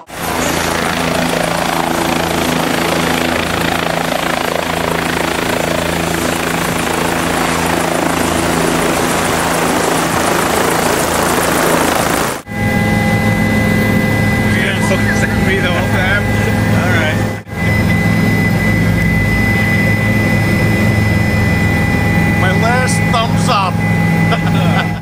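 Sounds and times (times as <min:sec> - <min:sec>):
helicopter turbine and rotor: 0:00.0 - 0:25.0.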